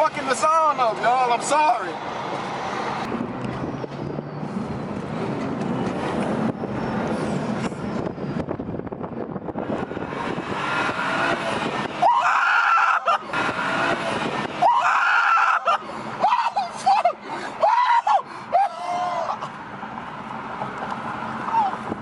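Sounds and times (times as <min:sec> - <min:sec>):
car engine driving in traffic: 0:00.0 - 0:22.0.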